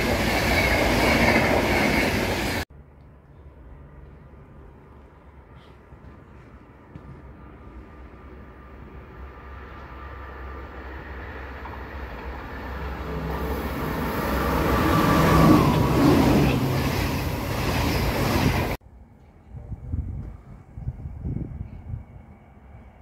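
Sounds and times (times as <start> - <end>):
train whine: 0.0 - 2.7, 6.0 - 23.0
train rumbling past: 0.0 - 23.0.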